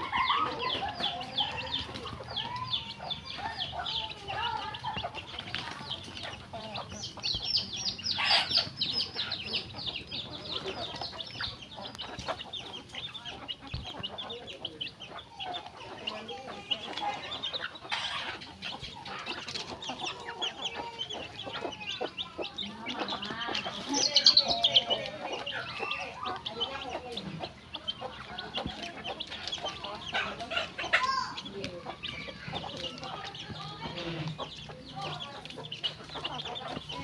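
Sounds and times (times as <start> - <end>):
chickens clucking: 0.0 - 37.0
high chirping calls: 0.0 - 37.0.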